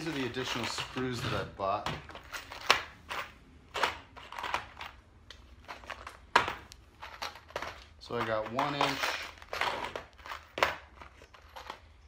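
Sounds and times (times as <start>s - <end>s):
handling noise: 0.0s - 12.0s.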